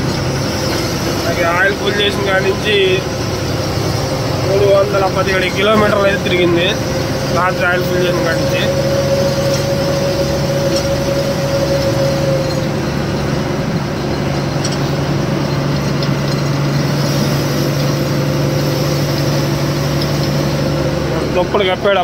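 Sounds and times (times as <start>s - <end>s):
lorry engine droning: 0.0s - 22.0s
road noise: 0.0s - 22.0s.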